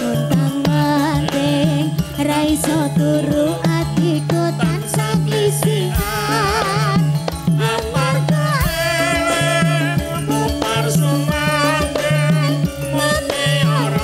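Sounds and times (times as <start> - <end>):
hand drums: 0.0 - 14.0
woman singing with vibrato: 0.0 - 14.0.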